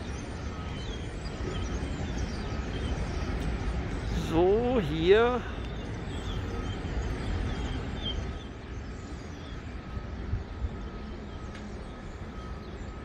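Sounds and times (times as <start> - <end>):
construction site noise: 0.0 - 13.0
distant traffic rumble: 0.0 - 13.0
faint high whine: 0.0 - 13.0.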